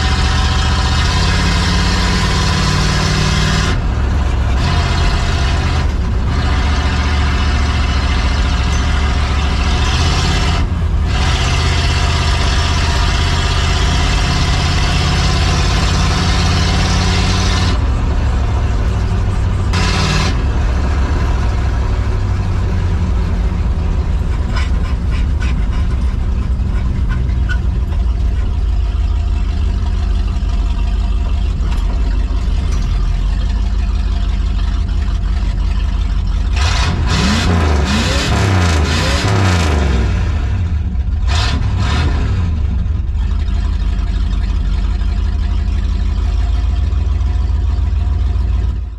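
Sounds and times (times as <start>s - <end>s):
truck engine droning and revving: 0.0s - 48.9s.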